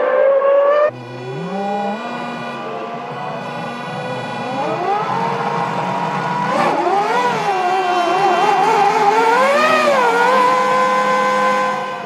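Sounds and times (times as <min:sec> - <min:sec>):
racing car engine revving: 0:00.0 - 0:12.0
steady engine note: 0:00.8 - 0:12.0.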